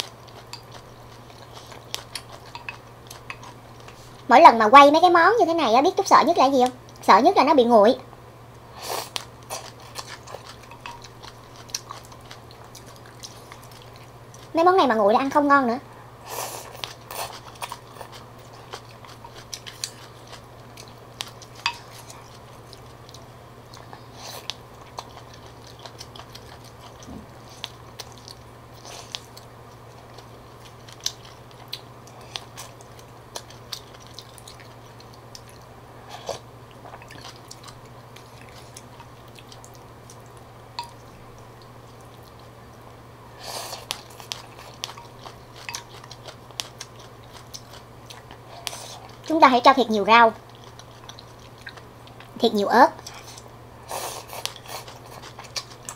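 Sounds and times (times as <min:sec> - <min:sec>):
person chewing: 0:00.0 - 0:04.3, 0:08.8 - 0:14.5, 0:16.3 - 0:49.3, 0:50.4 - 0:52.4, 0:53.0 - 0:55.9
steady low hum: 0:00.0 - 0:55.9.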